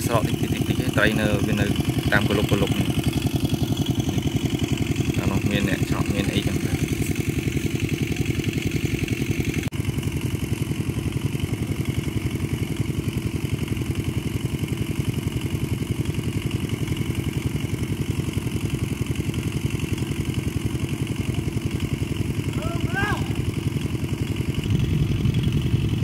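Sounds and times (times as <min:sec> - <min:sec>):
small engine chugging: 0:00.0 - 0:26.0.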